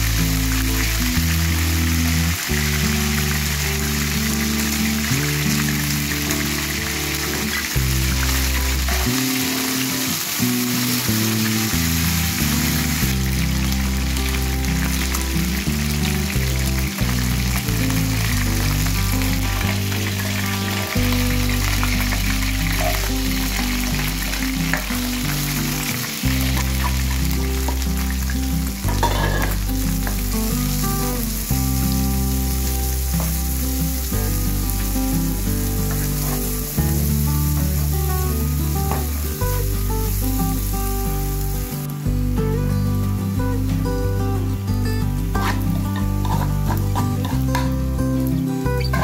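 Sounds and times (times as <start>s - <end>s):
background music with bass notes: 0.0s - 49.0s
oil sizzling in a wok: 0.0s - 49.0s.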